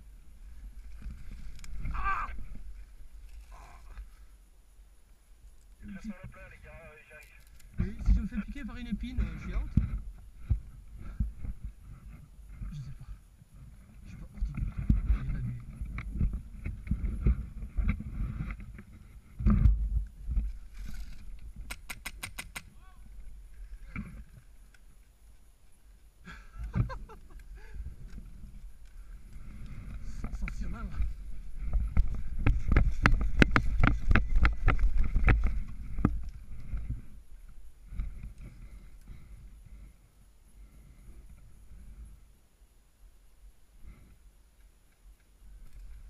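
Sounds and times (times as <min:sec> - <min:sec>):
wind rumbling on microphone: 0:00.0 - 0:04.5, 0:07.6 - 0:25.0, 0:26.4 - 0:42.3
branches rustling and scraping: 0:00.0 - 0:12.9, 0:13.5 - 0:39.9.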